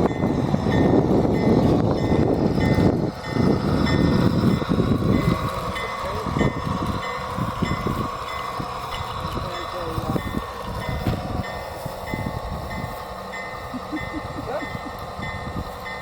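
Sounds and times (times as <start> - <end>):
train wheels rattling on rail: 0.0 - 16.0.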